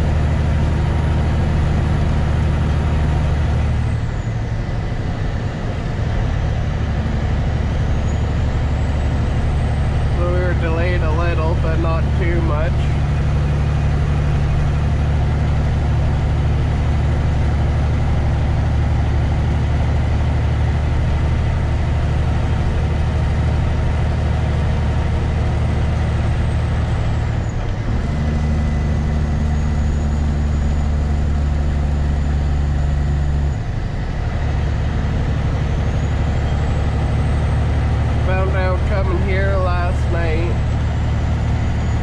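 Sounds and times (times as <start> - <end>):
truck diesel engine droning: 0.0 - 42.0.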